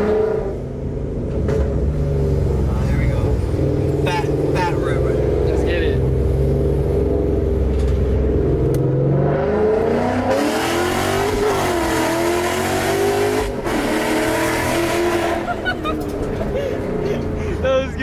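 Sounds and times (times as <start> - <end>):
car engine full-throttle pull: 1.2 - 17.6.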